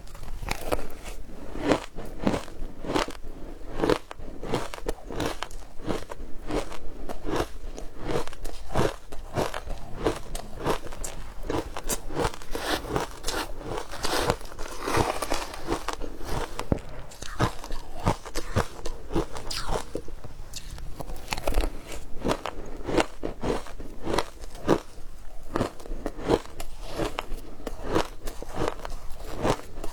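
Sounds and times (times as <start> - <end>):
ice crunching between teeth: 0.1 - 29.9.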